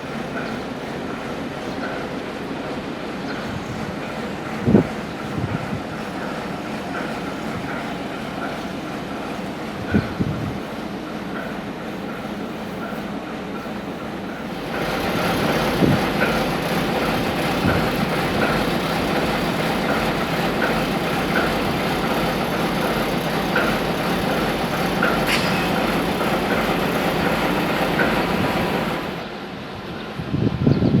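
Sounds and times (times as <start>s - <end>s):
train wheels rumbling: 0.0s - 30.7s.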